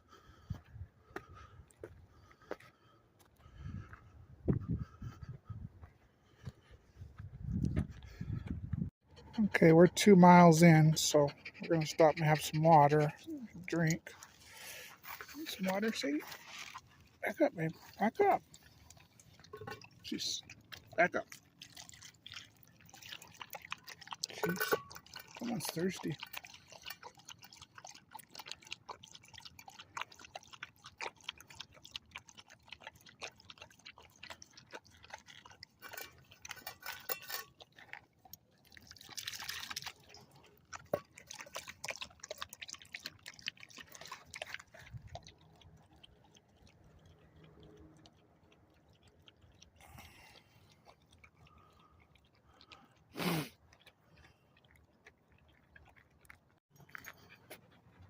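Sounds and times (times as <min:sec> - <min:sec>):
dog lapping water: 0:09.1 - 0:58.0.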